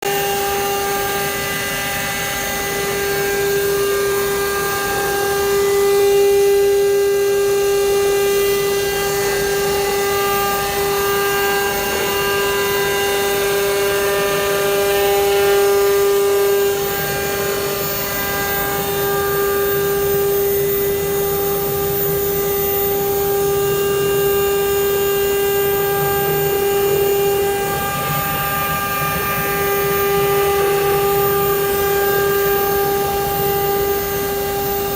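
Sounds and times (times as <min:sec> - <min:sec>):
router spindle whine: 0:00.0 - 0:34.9
hiss of wood cutting: 0:00.2 - 0:34.9.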